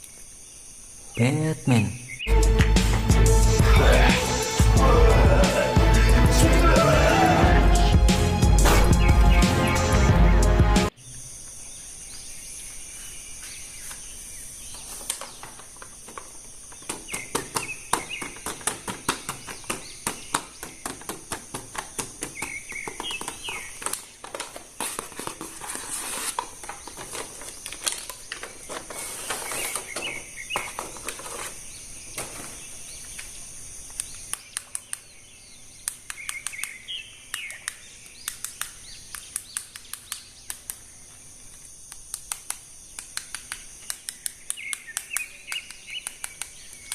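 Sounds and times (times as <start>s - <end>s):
birds chirping: 0.0s - 25.6s, 26.4s - 46.9s
steady high-pitched hiss: 0.0s - 46.9s.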